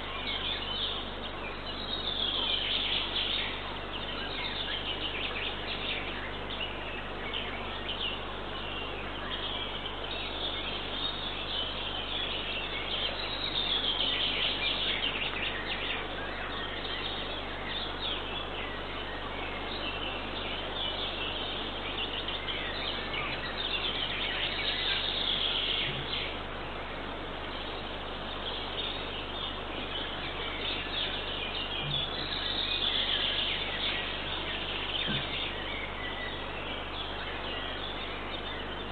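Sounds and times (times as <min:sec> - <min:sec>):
microphone hiss: 0:00.0 - 0:38.9
songbirds singing: 0:00.0 - 0:38.9.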